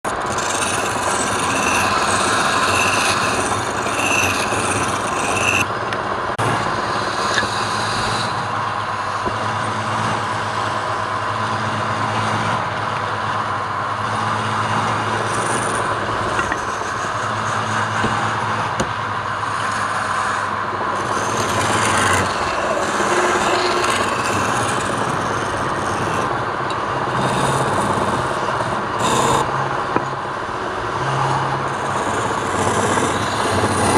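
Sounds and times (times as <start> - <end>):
woodworking power tool cutting wood: 0.0 - 33.9.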